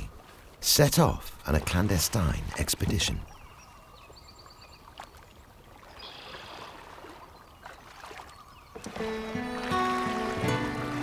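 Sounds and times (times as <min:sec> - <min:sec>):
paddles splashing and dripping: 0:00.0 - 0:11.0.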